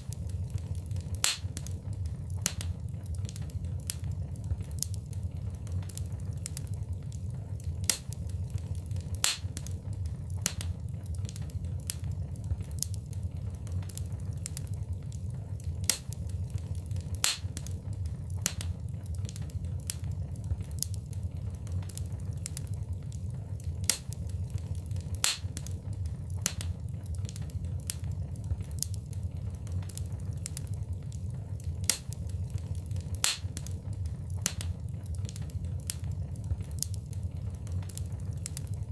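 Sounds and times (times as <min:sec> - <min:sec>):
fire crackling and popping: 0:00.0 - 0:38.9
fire low rumble: 0:00.0 - 0:38.9.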